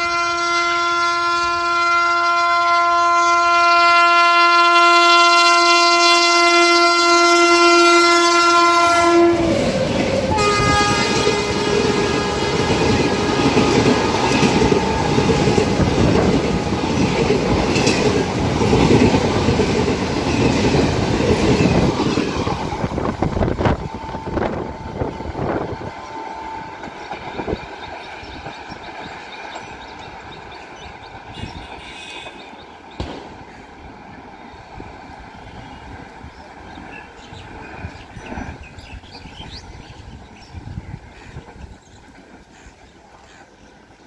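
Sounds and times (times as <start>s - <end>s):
train rushing past: 4.5s - 43.0s.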